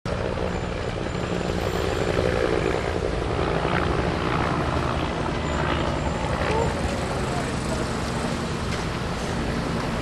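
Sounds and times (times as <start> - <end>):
low engine rumble: 0.1 - 10.0
street noise: 0.1 - 10.0.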